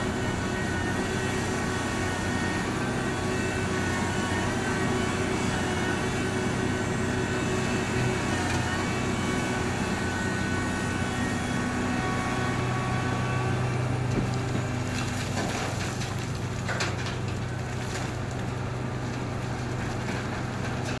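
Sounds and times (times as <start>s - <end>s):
heavy diesel machinery drone: 0.0s - 21.0s.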